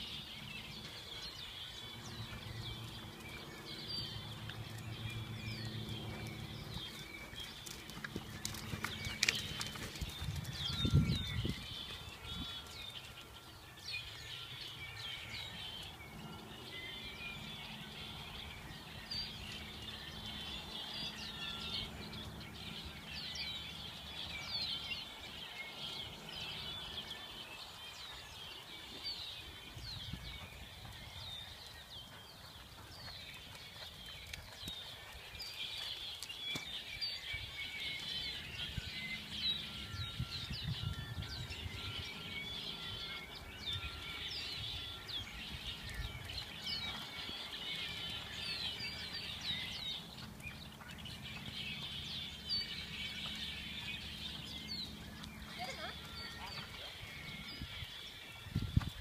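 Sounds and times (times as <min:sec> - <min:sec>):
small birds chirping and singing: 0:00.0 - 0:59.0.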